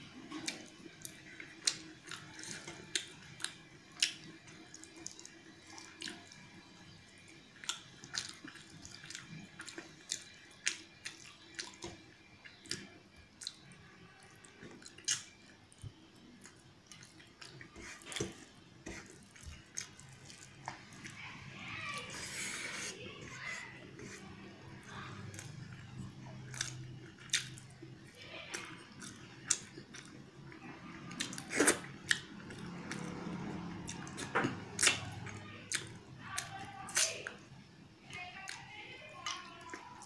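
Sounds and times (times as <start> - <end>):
person chewing with mouth open: 0.2 - 6.4, 7.1 - 21.2, 22.1 - 37.1.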